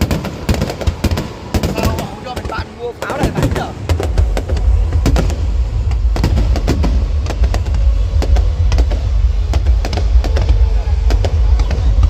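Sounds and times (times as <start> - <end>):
continuous low rumble: 0.0 - 12.0
fireworks banging and crackling: 0.0 - 12.0
loud music: 0.0 - 12.0.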